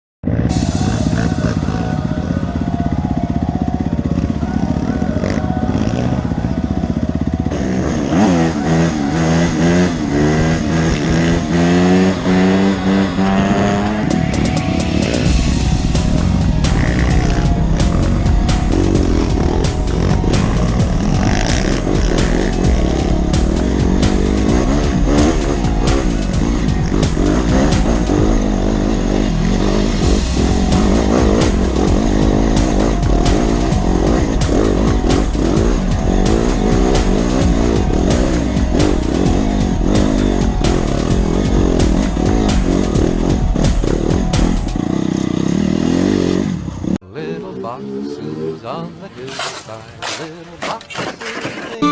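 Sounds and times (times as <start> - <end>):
dirt bike engine revving: 3.8 - 47.0.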